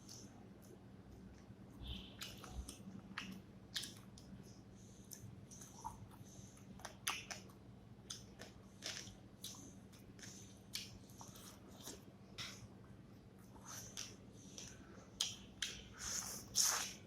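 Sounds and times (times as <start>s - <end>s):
person chewing and mouth smacking: 0.0s - 4.4s, 5.0s - 12.6s, 13.4s - 17.0s.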